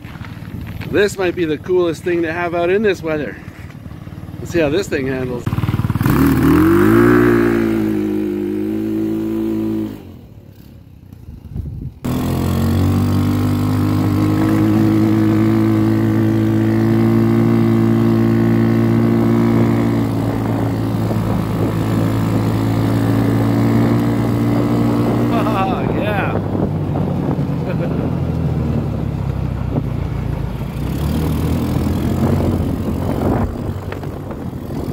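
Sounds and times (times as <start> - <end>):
go-kart engine revving: 0.0 - 34.9.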